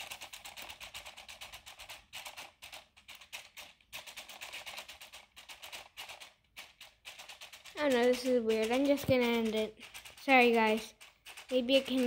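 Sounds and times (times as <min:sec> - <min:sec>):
robot toy clicking: 0:00.0 - 0:12.0.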